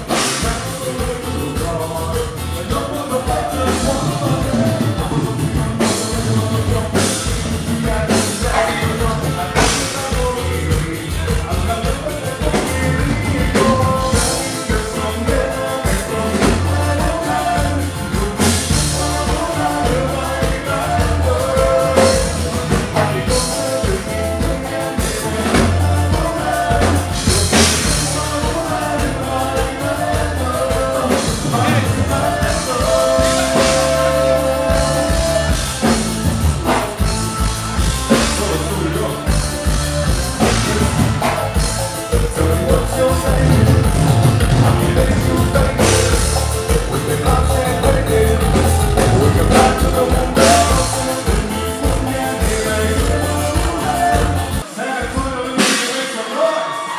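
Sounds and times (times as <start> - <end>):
drum kit: 0.0 - 56.9
keyboards: 0.0 - 56.9
live band playing: 0.0 - 56.9
person singing: 0.0 - 56.9.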